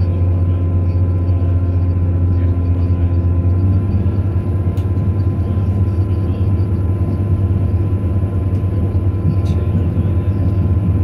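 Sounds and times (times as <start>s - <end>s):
diesel train drone: 0.0s - 11.0s.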